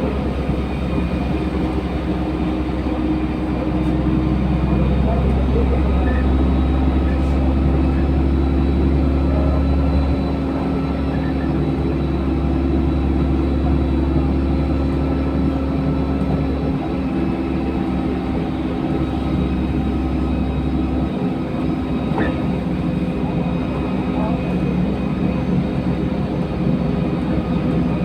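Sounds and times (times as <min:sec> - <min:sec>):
bus engine droning: 0:00.0 - 0:28.0.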